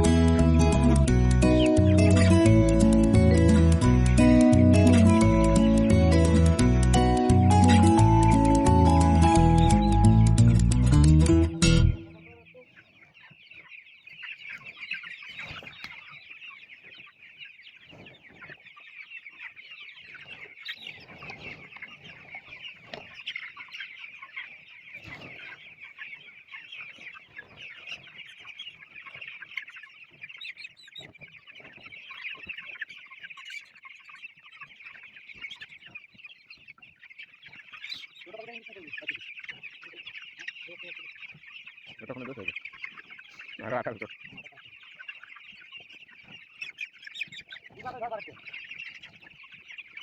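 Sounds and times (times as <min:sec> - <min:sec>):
chickens clucking and cheeping: 0:00.0 - 0:50.0.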